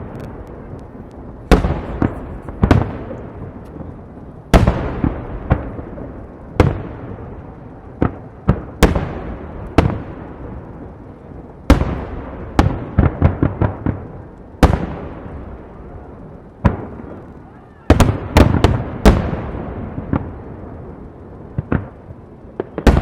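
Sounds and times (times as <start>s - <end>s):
firework bangs with rumbling echo: 0.0s - 23.0s.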